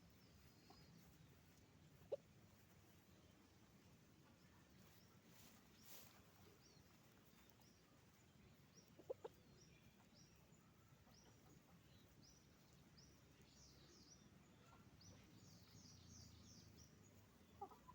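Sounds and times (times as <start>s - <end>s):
chicken clucks: 0.2s - 13.4s, 16.6s - 17.9s.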